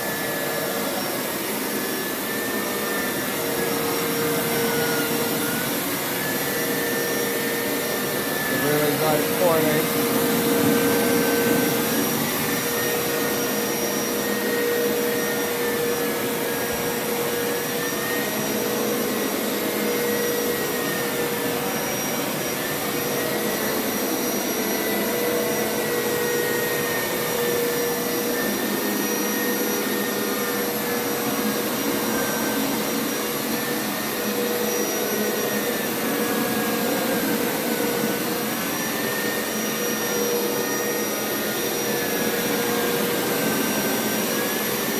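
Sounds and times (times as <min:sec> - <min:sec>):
carpet washer motor droning: 0:00.0 - 0:44.9.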